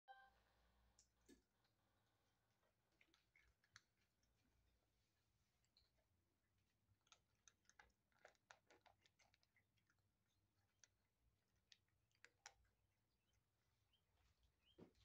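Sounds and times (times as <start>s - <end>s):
kittens crunching dry kibble: 1.2s - 14.6s.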